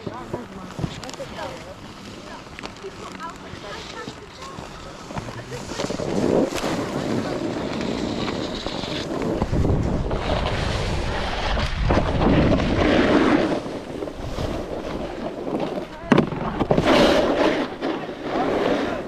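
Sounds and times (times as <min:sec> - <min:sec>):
snowboard scraping over snow: 0:00.0 - 0:19.0
wind on microphone: 0:03.5 - 0:19.0.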